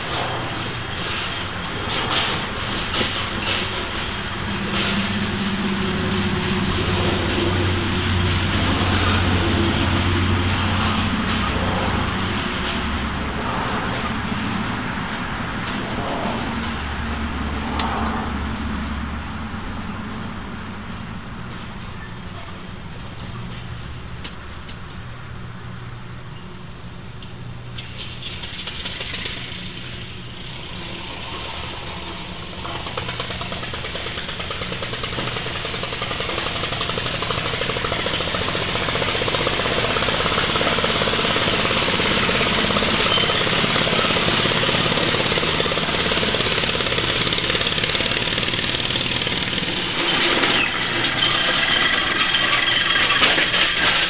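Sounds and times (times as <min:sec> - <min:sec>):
compressed-air engine running: 0:00.0 - 0:26.2, 0:27.6 - 0:54.0.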